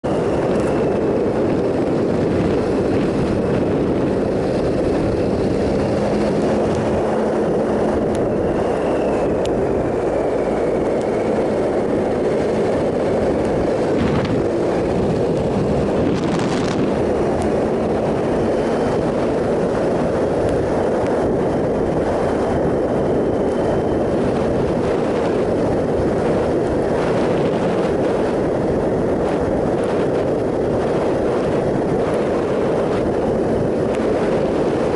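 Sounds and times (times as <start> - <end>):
rushing noise: 0.0 - 34.9
motorcycle engine running: 0.1 - 34.9.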